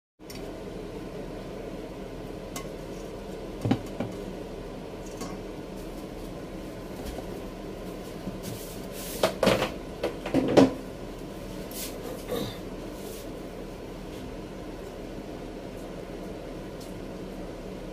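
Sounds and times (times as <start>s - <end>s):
low room hum: 0.2s - 17.9s.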